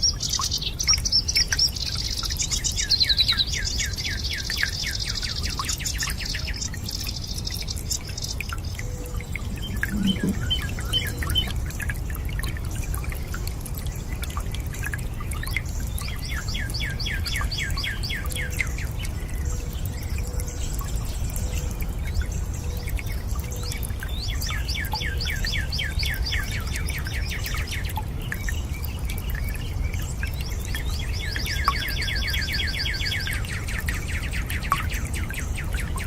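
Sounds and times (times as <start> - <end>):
songbirds singing: 0.0 - 36.0
water dripping and trickling: 0.0 - 36.0.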